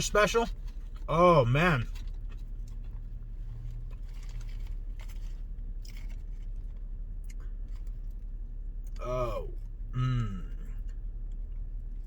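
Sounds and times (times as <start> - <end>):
steady low hum: 0.0 - 12.0
crunching of eating fried chicken: 1.8 - 12.0.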